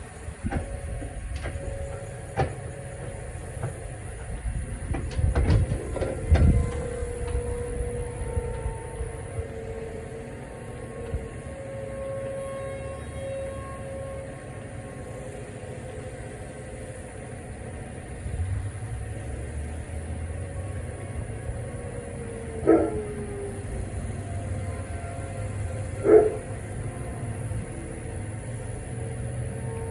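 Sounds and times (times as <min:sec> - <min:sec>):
distant outdoor warning sirens: 0:00.0 - 0:29.9.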